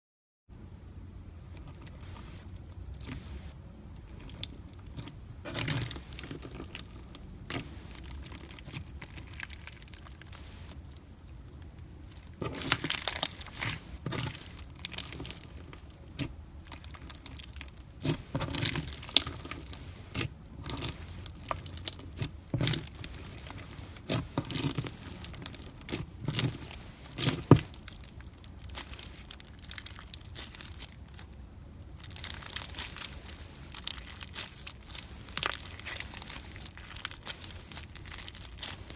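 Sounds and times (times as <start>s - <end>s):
crunchy slime being squeezed: 4.1s - 38.9s.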